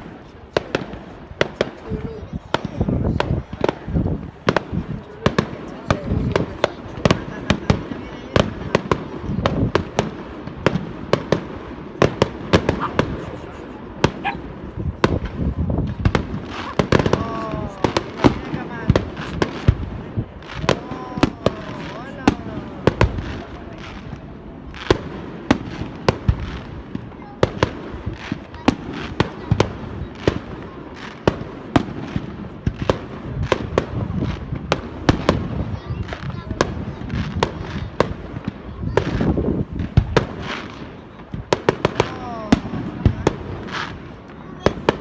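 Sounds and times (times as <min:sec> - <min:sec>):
fireworks bangs and cracks: 0:00.0 - 0:45.0.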